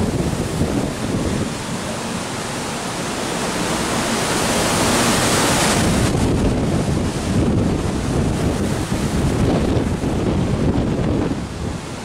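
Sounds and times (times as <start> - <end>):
wind buffeting microphone: 0.0 - 2.5, 4.5 - 12.0
rough sea waves breaking: 0.0 - 12.0.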